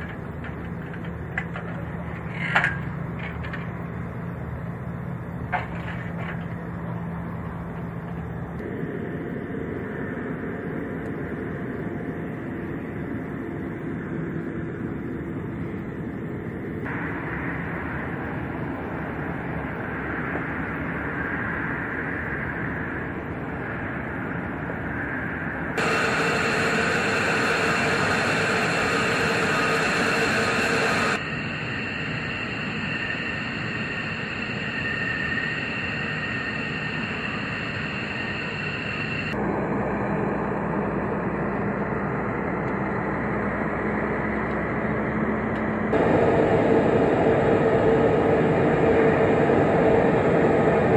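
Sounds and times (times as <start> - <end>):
jet engine whine: 0.0 - 50.9.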